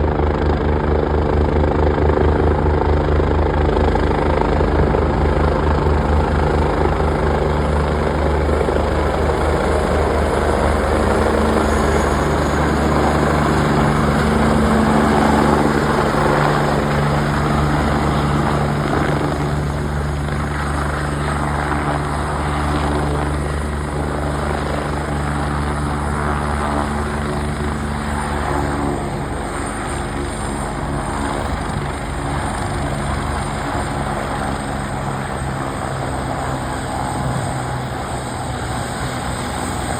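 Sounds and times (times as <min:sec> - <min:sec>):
faint high turbine whine: 0:00.0 - 0:39.9
helicopter rotor beating: 0:00.0 - 0:39.9.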